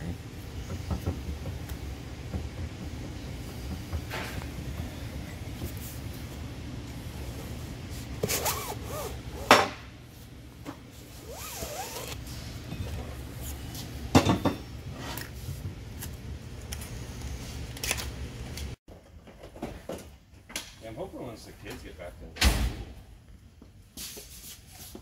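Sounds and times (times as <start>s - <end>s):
low shop hum: 0.0s - 25.0s.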